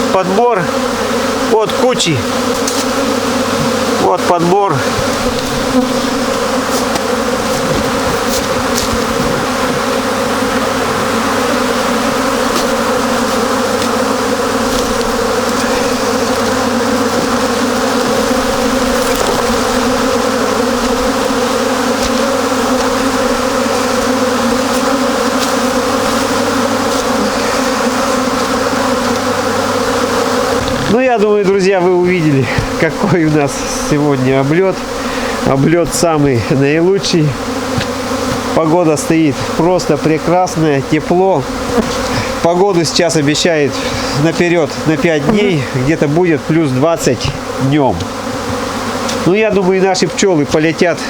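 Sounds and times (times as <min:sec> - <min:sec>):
bees buzzing: 0:00.0 - 0:51.0.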